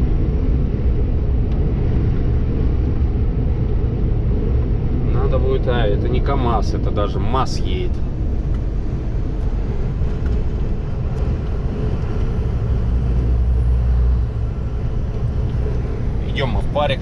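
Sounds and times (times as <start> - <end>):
road and tyre noise: 0.0 - 17.0
truck engine drone: 0.0 - 17.0.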